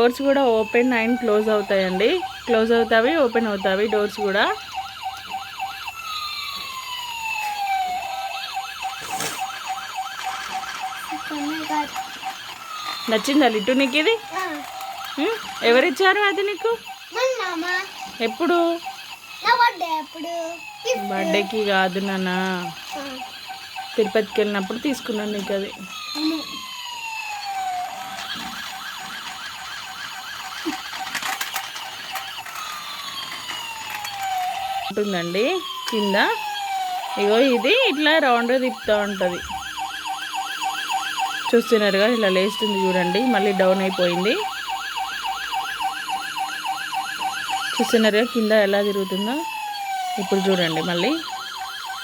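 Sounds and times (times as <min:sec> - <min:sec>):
toy police car siren: 0:00.0 - 0:52.0.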